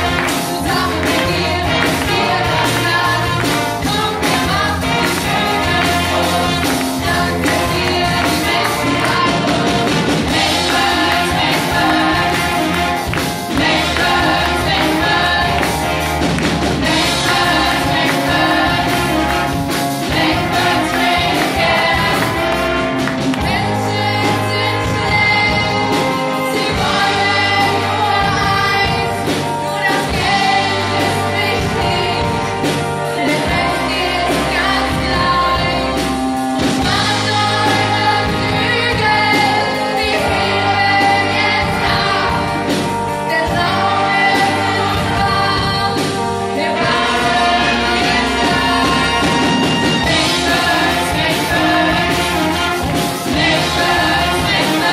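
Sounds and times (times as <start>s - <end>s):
chorus singing: 0.0s - 54.9s
live pop band: 0.0s - 54.9s.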